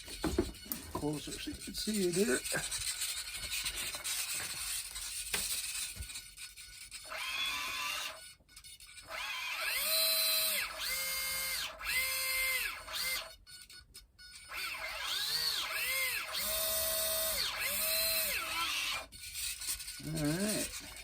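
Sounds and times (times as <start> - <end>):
electric motors and propellers whining: 0.0 - 21.0.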